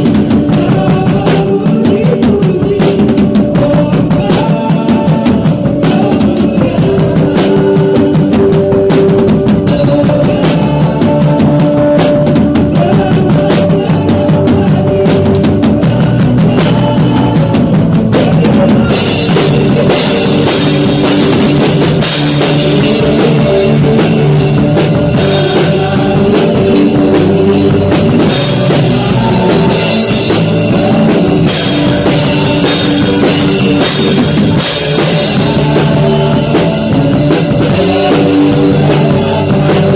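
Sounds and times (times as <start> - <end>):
bass guitar: 0.0 - 39.9
drum kit rock beat: 0.0 - 39.9
electric guitar: 0.0 - 39.9
keyboard: 0.0 - 39.9.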